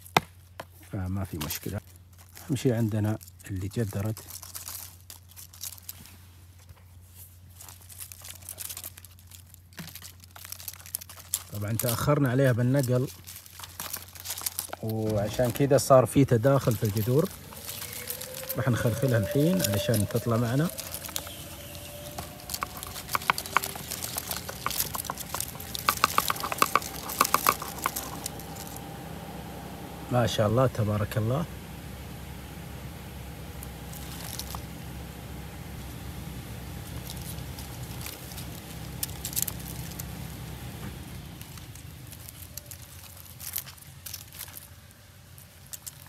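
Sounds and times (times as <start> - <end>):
roots and soil crackling and rustling: 0.0 - 31.5, 33.0 - 46.0.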